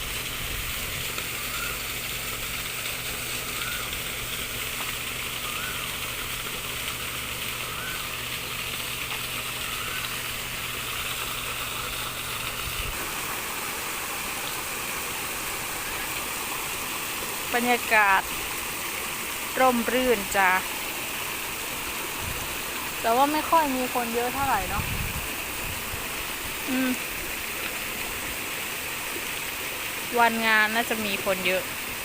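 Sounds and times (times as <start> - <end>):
water pouring down waterfall: 0.0 - 32.0.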